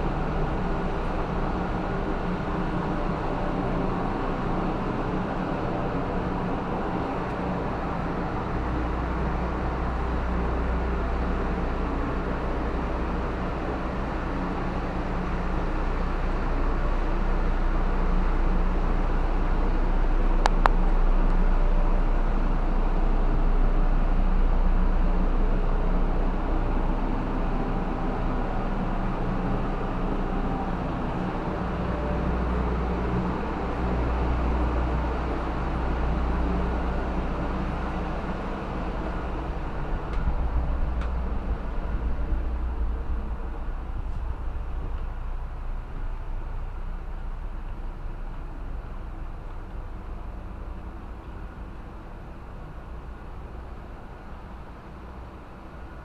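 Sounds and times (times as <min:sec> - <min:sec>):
engine-room machinery droning: 0:00.0 - 0:56.0.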